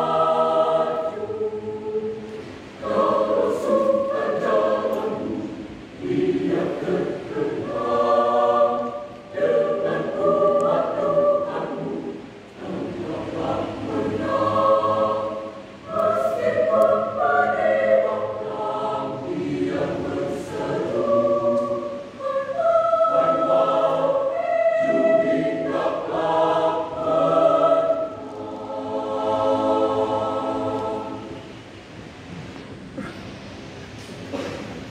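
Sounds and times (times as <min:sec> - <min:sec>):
choir singing: 0:00.0 - 0:31.6.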